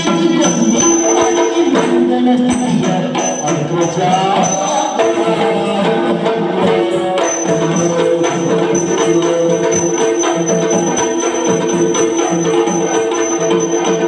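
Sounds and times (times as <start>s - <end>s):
drum strokes: 0.0s - 14.0s
jingling metal percussion: 0.0s - 14.0s.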